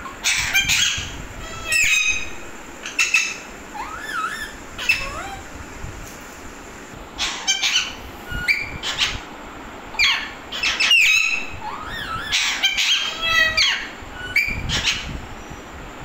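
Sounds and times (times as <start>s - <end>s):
parakeets squawking: 0.0s - 5.5s, 7.2s - 9.3s, 9.9s - 15.2s.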